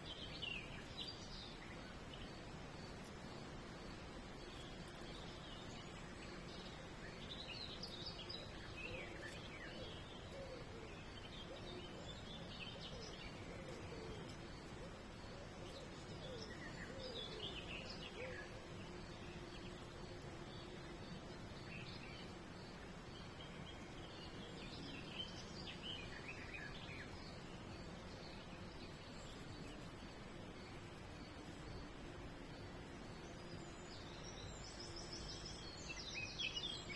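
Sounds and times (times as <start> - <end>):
outdoor background hiss: 0.0 - 36.9
songbirds chirping: 0.0 - 36.9.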